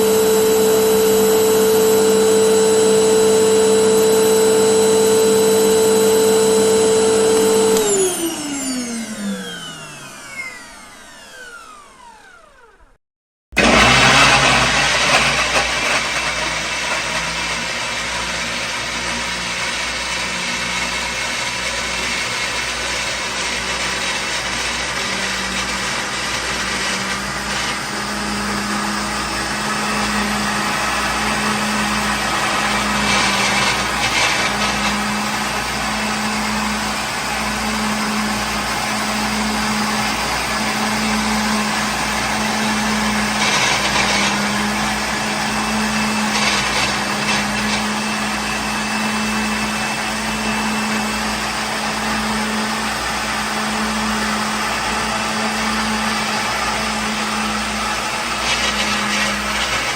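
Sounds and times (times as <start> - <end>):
kitchen blender running: 0.0 - 59.9.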